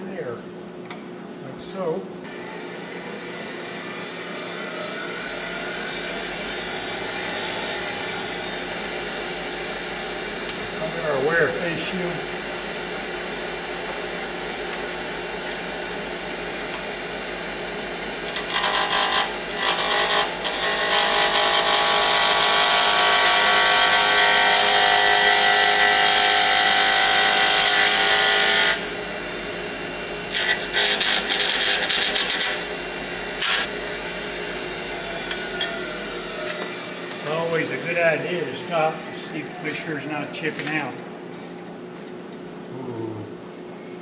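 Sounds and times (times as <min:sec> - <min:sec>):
wood lathe humming: 0:02.3 - 0:41.3
turning tool cutting wood: 0:04.6 - 0:40.8.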